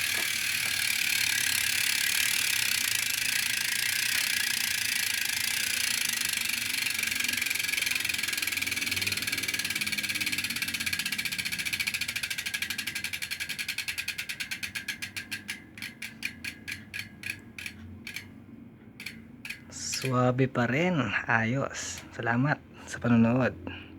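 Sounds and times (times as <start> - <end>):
bicycle hub freewheel clicking: 0.0 - 20.4.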